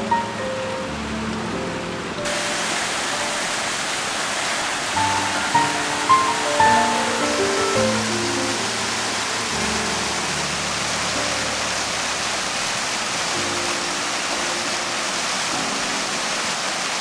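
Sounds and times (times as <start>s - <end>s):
fountain water splashing on paving: 0.0s - 17.0s.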